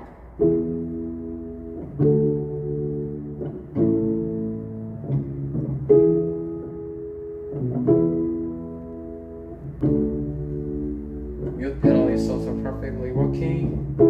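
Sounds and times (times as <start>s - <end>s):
muffled piano chords: 0.0s - 14.0s.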